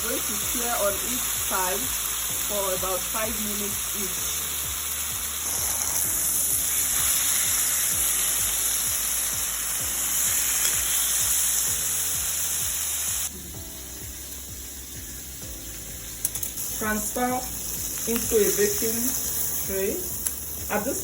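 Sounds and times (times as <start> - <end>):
chicken sizzling in oil: 0.0 - 21.0.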